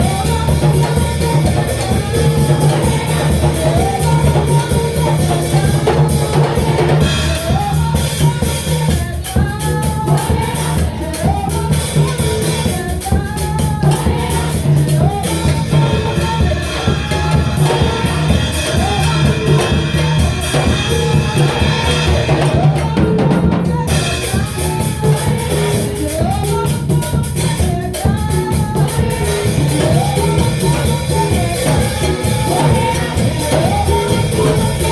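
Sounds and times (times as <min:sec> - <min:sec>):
band with drum kit: 0:00.0 - 0:34.9
steady bass line: 0:00.0 - 0:34.9
woman singing: 0:00.0 - 0:34.9.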